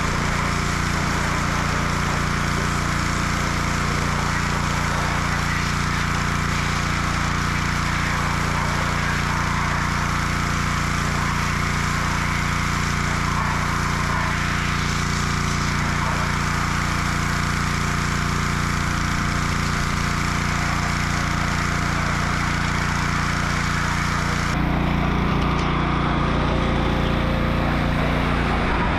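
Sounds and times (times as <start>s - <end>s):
motor running steadily: 0.0s - 28.9s.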